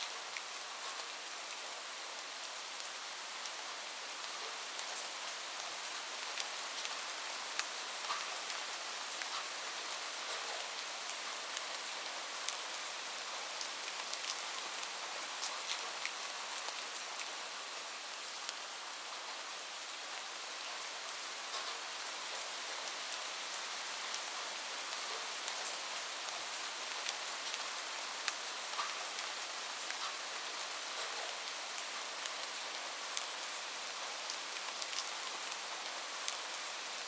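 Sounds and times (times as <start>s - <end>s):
rain falling on a roof: 0.0s - 37.0s.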